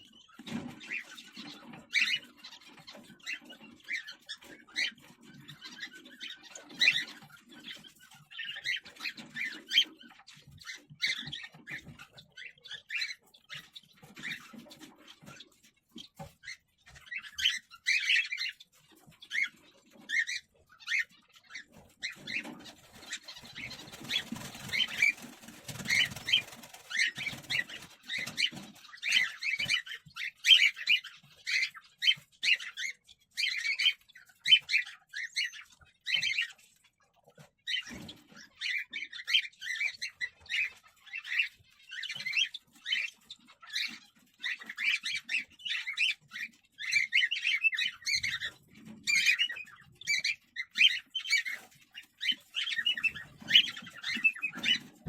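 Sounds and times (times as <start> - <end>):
cockatiels chirping: 0.0 - 55.0.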